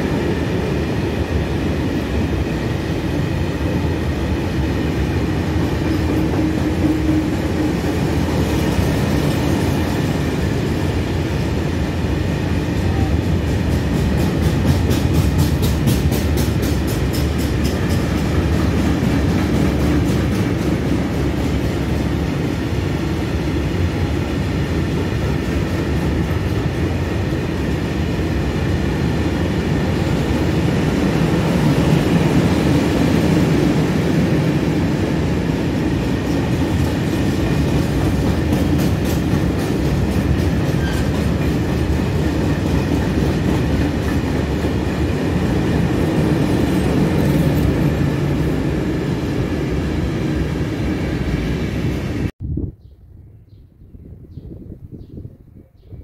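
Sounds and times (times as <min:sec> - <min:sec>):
heavy rumble of train wheels: 0:00.0 - 0:52.4.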